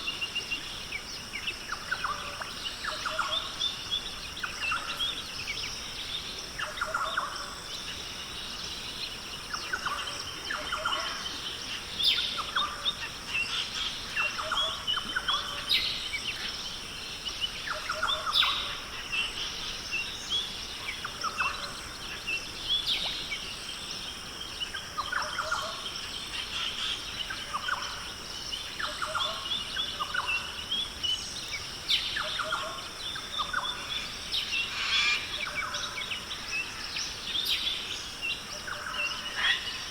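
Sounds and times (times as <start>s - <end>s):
birds chirping and trilling: 0.2s - 39.9s.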